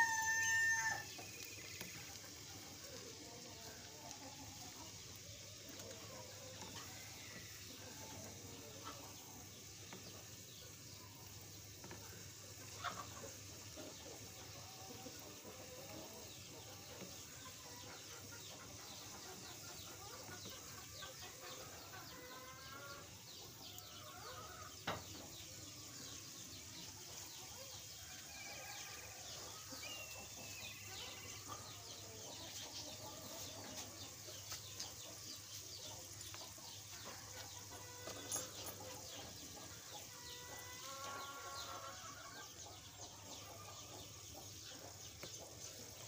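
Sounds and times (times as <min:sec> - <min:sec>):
chips frying in hot oil: 0:00.0 - 0:46.0.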